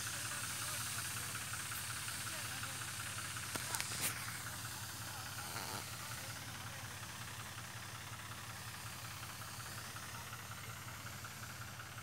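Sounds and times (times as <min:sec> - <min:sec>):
crop sprayer hiss: 0:00.0 - 0:12.0
tractor engine humming: 0:00.0 - 0:12.0.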